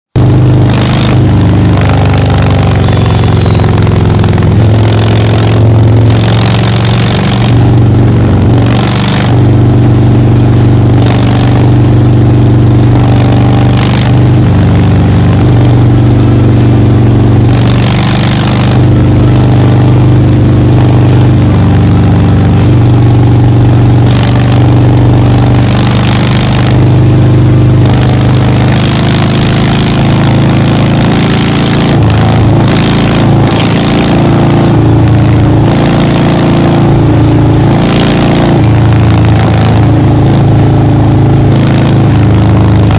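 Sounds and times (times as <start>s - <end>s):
motorcycle engine deep rumble: 0.2s - 42.9s.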